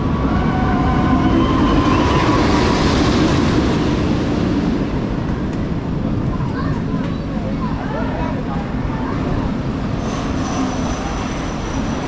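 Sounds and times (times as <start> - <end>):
roller coaster rumbling on wooden track: 0.0 - 12.0.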